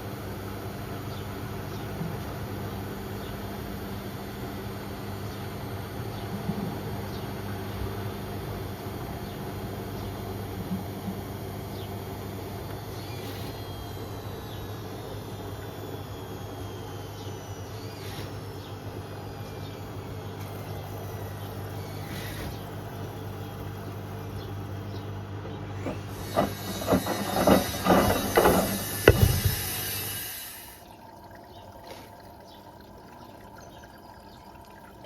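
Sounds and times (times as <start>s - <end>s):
washing machine motor hum: 0.0s - 35.0s.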